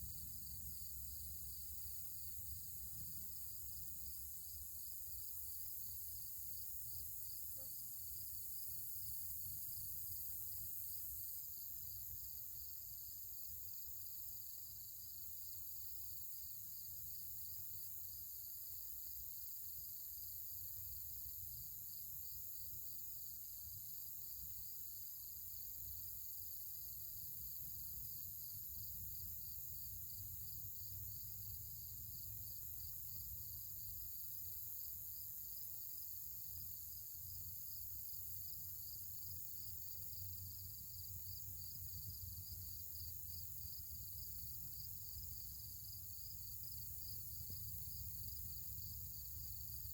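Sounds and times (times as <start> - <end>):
high insect hiss: 0.0 - 49.9.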